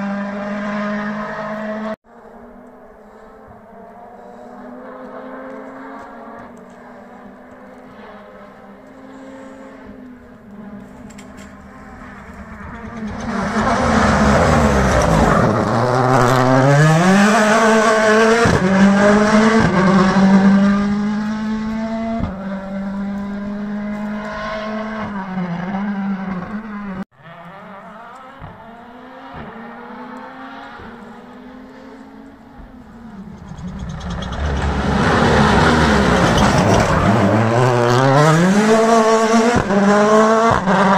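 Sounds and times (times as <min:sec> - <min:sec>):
rally car engine revving: 0:00.0 - 0:02.0, 0:03.1 - 0:40.9.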